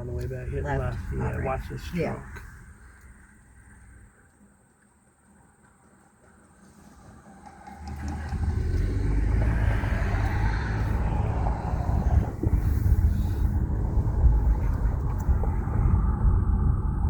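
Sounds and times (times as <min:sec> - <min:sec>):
car road and wind rumble: 0:00.0 - 0:17.0.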